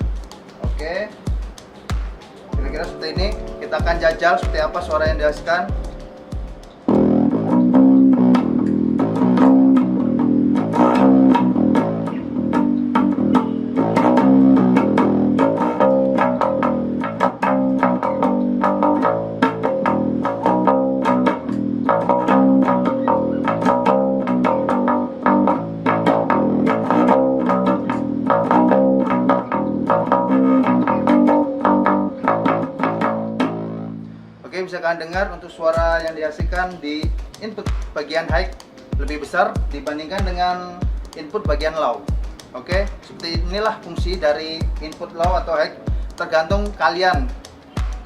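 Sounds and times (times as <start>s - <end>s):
electric bass guitar plucked notes: 0.0s - 48.0s.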